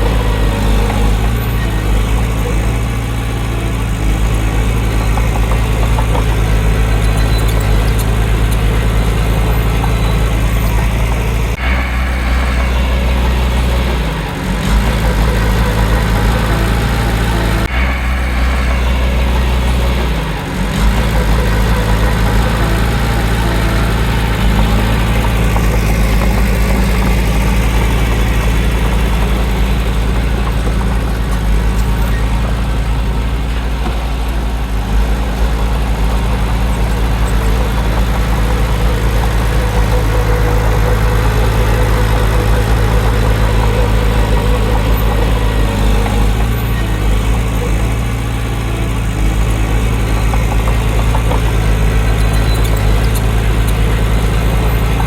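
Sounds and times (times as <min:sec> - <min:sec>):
heavy diesel engine drone: 0:00.0 - 0:55.0.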